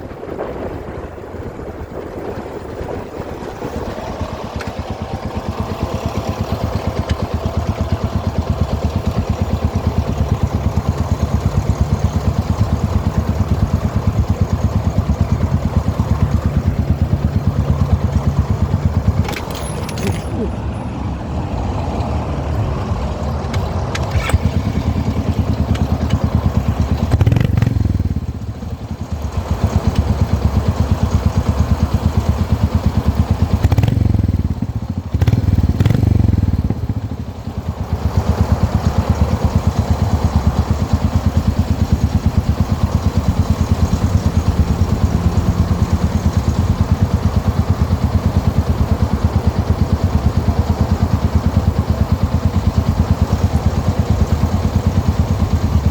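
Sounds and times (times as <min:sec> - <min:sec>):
motorcycle engine idling and revving: 0:02.6 - 0:55.9.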